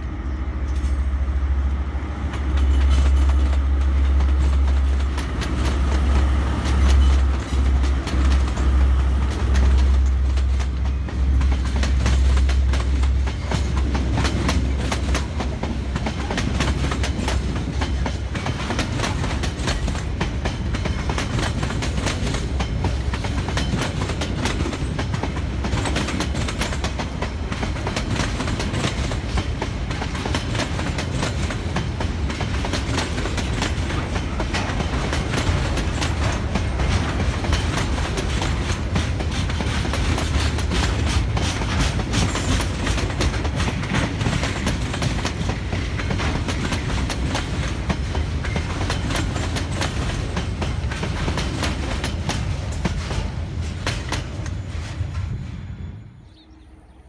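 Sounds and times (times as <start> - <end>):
train wheels clacking: 0.0 - 56.0
train rumble: 0.0 - 57.0.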